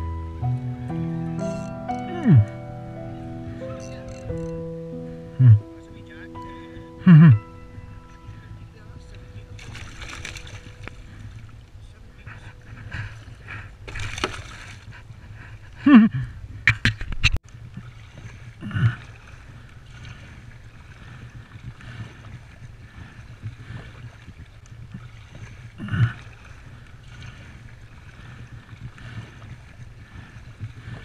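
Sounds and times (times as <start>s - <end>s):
water lapping against kayak: 1.4s - 31.0s.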